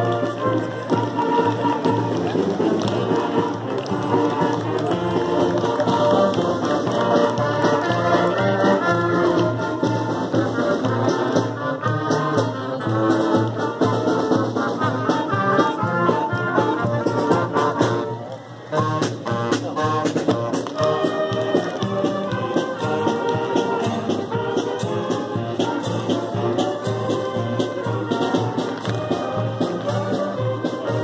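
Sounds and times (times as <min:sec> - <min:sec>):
drum line snare and bass drums: 0:00.0 - 0:18.1, 0:18.7 - 0:31.0
marching band brass tune: 0:00.0 - 0:31.0.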